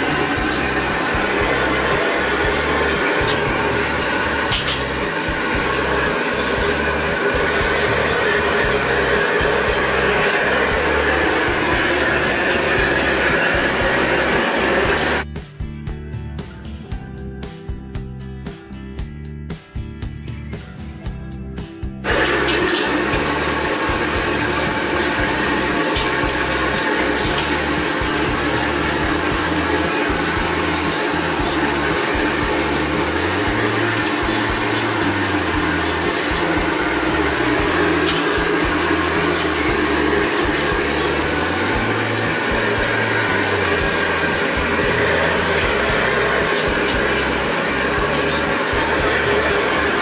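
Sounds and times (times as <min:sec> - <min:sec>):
gas wok burner rushing: 0:00.0 - 0:15.2, 0:22.0 - 0:50.0
background music bass line: 0:00.0 - 0:50.0.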